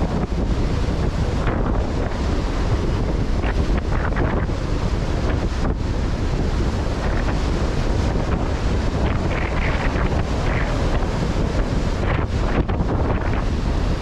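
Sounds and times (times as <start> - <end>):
hissing surf: 0.0 - 14.0
waves breaking: 0.0 - 14.0
wind buffeting microphone: 0.0 - 14.0.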